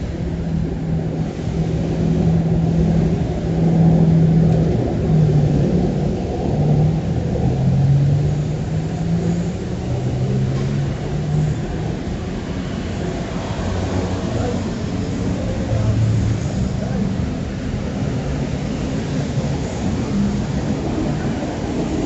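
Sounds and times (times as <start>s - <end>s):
rumble of passing traffic: 0.0s - 22.0s
vehicle engine droning: 0.0s - 22.0s.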